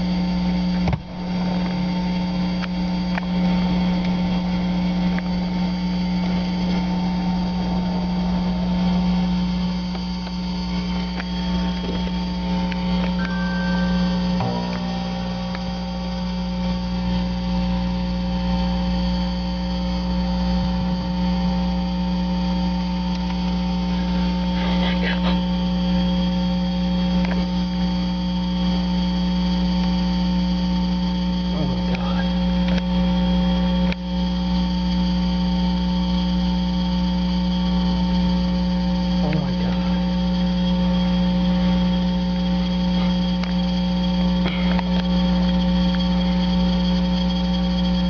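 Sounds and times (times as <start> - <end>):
electrical hum: 0.0 - 48.0.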